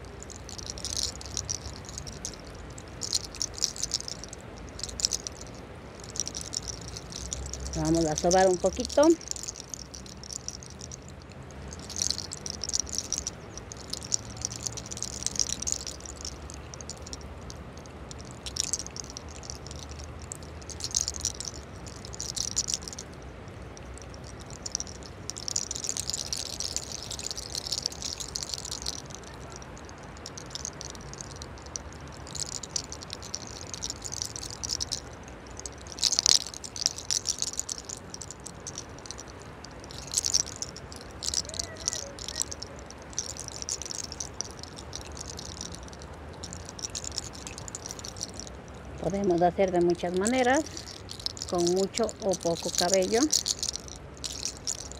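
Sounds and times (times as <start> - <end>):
fingers rubbing hair crackling: 0.0 - 23.1, 23.8 - 35.0, 39.9 - 54.9.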